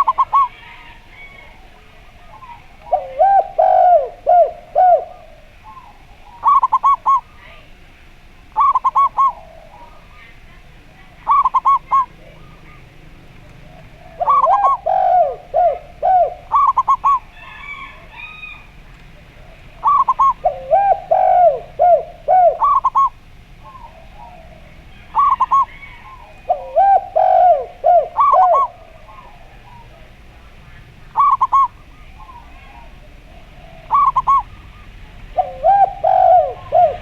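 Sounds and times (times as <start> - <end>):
doves cooing: 0.0 - 37.0.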